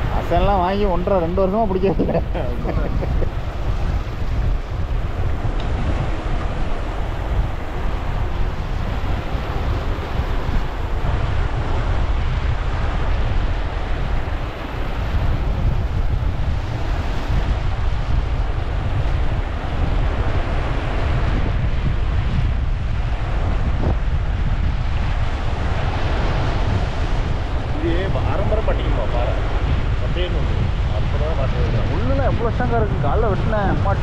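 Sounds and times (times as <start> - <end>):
surf breaking on beach: 0.0 - 34.0
wind buffeting microphone: 0.0 - 34.0.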